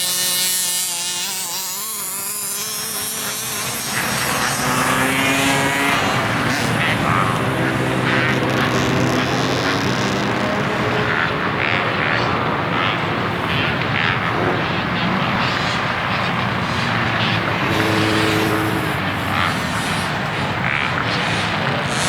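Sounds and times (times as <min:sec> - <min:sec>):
dirt bike and quad engines running: 0:00.0 - 0:22.0.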